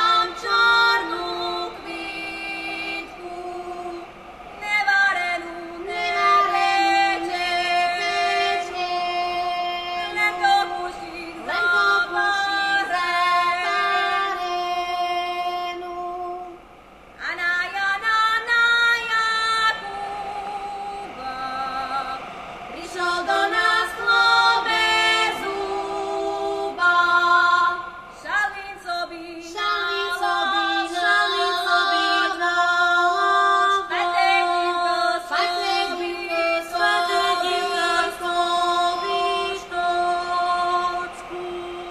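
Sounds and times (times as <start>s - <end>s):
group singing folk song: 0.0s - 16.6s, 17.3s - 41.9s.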